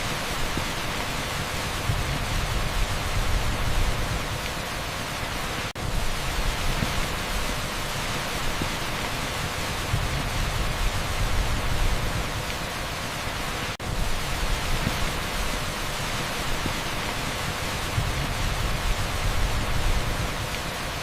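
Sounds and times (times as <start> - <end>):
heavy rain on asphalt: 0.0 - 21.0.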